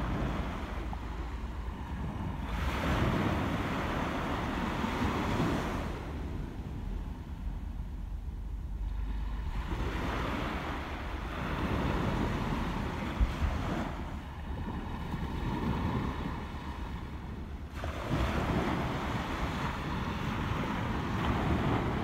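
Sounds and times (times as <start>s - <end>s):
sea waves washing on shore: 0.0s - 22.0s
wind buffeting microphone: 0.0s - 22.0s.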